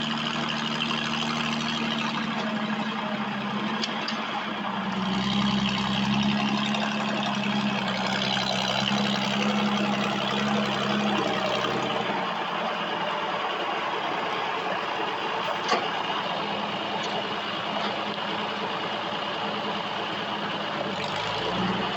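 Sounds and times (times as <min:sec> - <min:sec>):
tractor engine running: 0:00.0 - 0:21.9.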